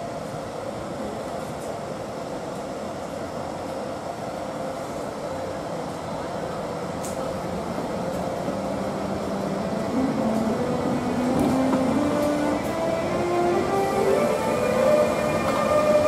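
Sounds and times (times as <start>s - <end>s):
electric locomotive humming: 0.0s - 16.0s.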